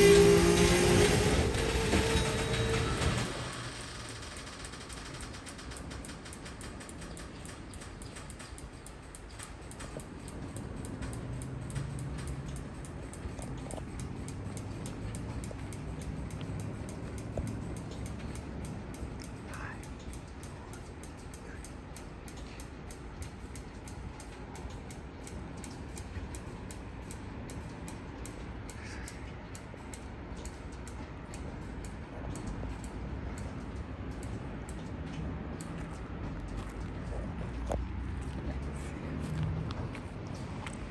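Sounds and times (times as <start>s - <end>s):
low hum: 0.0s - 40.9s
train wheels rumbling on rail: 0.0s - 40.9s
light ticking: 3.7s - 40.9s.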